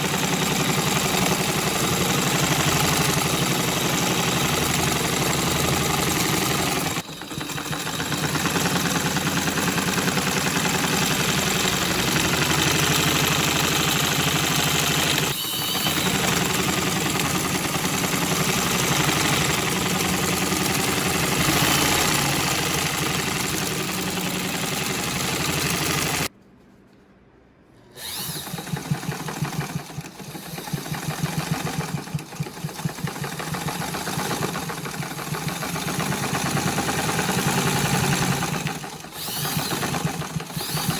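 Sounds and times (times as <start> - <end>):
sewing machine stitching: 0.0 - 26.3, 28.0 - 40.9.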